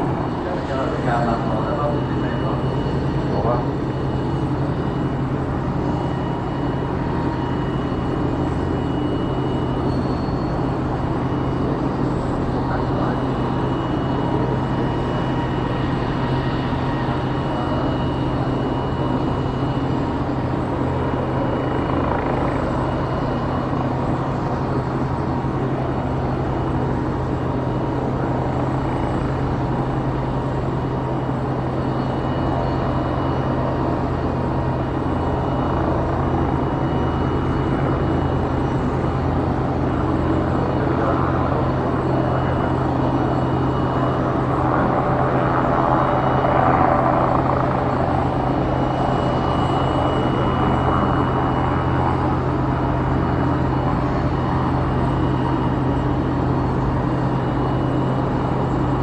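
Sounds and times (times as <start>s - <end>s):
aircraft machinery drone: 0.0s - 59.0s
faint high whine: 0.0s - 59.0s.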